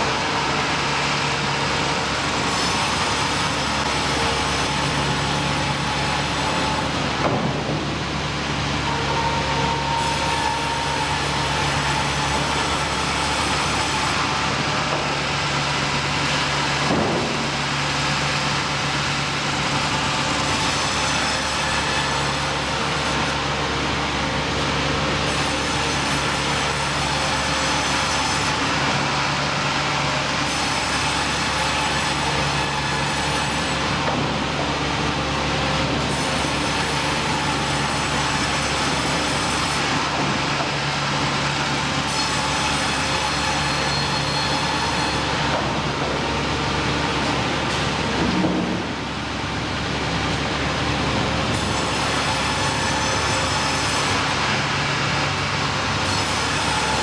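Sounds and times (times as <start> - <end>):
heavy machinery running: 0.0 - 57.0.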